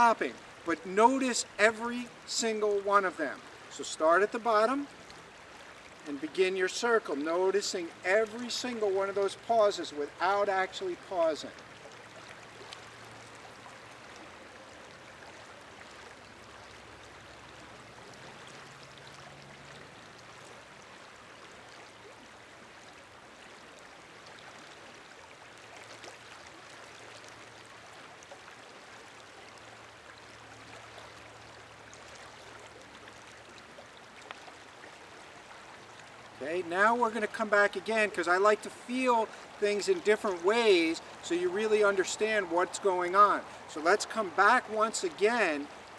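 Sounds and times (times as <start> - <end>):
creek water rushing: 0.0 - 45.9.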